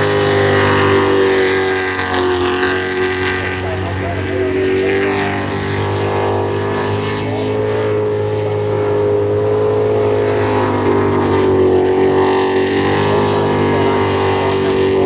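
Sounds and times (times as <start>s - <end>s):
boat engine running hard: 0.0s - 15.0s.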